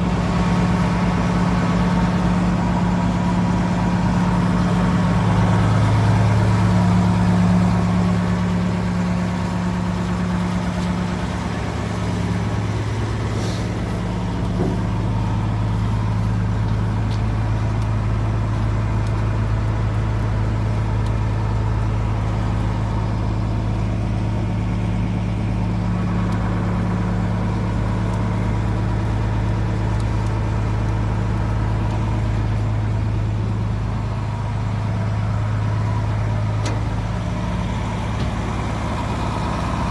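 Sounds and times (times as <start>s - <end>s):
diesel engine deep hum: 0.0s - 39.9s.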